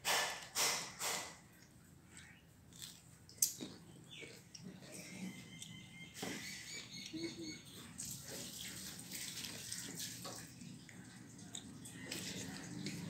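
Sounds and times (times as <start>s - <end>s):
chewing: 1.6s - 13.0s.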